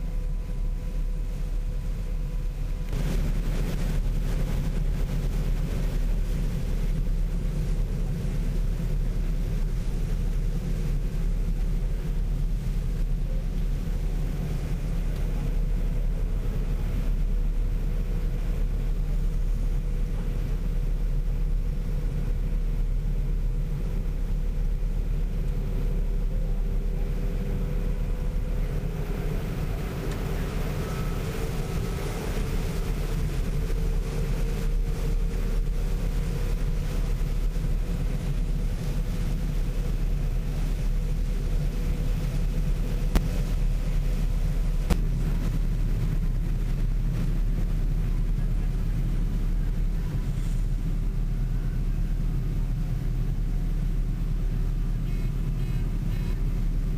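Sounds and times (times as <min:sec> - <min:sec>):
combine engine rumble: 0:00.0 - 0:56.9
steady machine hum: 0:00.0 - 0:56.9.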